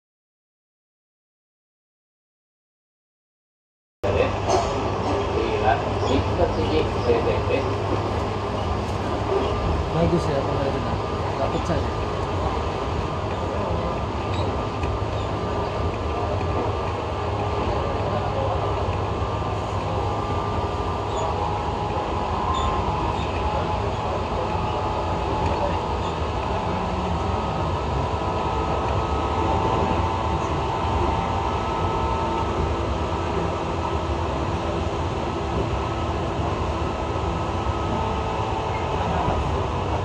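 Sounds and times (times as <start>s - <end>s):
train wheels rumbling on rails: 4.1s - 40.0s.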